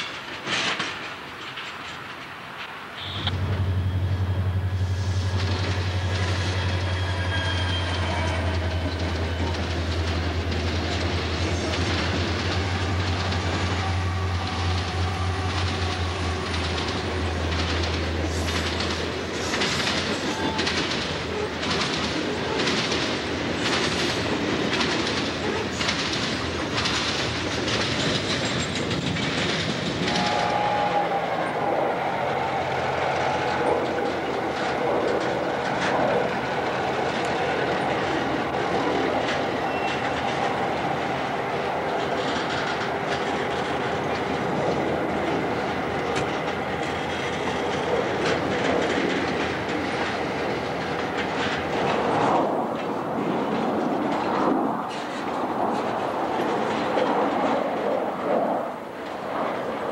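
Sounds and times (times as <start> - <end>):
diesel locomotive engine hum: 0.0 - 59.9
train wheels clickety-clack: 0.0 - 59.9.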